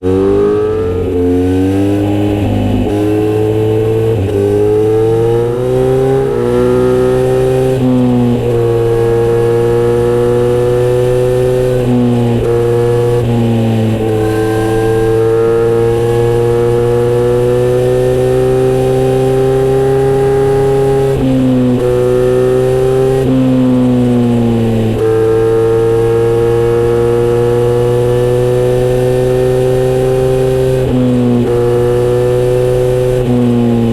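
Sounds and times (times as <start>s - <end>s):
motorcycle exhaust shifting gears: 0.0s - 33.9s.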